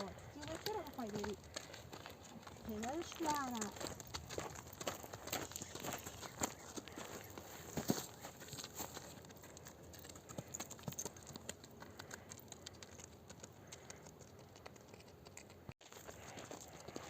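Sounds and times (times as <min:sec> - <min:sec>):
donkey hooves clopping: 0:00.0 - 0:17.0.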